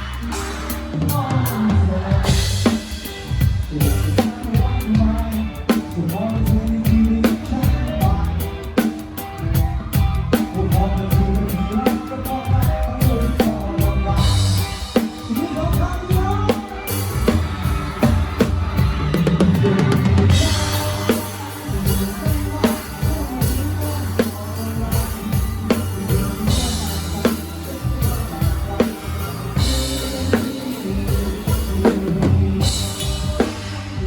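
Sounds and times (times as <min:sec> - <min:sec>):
band playing: 0:00.0 - 0:34.0
drum kit playing a beat: 0:00.0 - 0:34.0.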